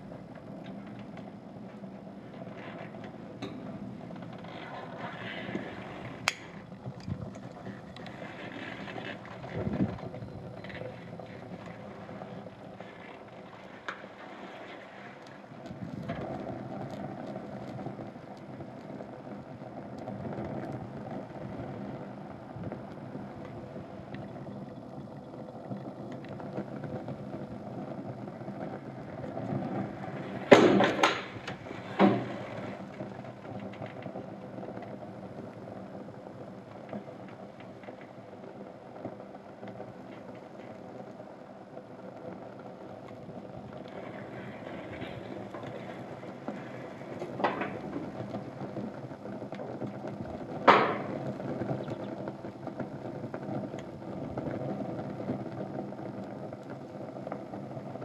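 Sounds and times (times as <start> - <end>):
fire rushing and crackling: 0.0 - 58.0
loud fire flares: 0.0 - 58.0.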